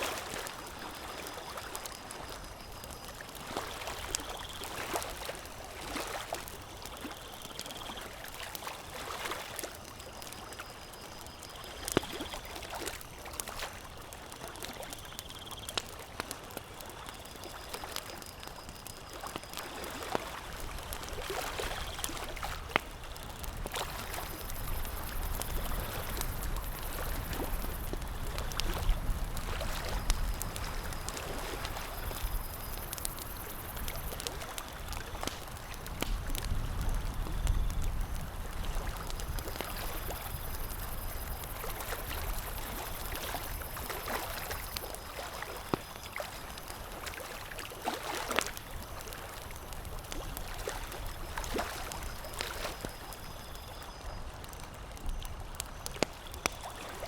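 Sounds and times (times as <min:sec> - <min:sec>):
campfire crackling: 0:00.1 - 0:57.0.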